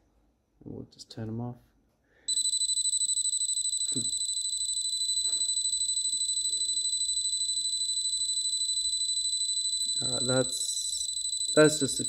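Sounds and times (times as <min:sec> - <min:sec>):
pulsing electronic alarm tone: 0:02.3 - 0:12.0.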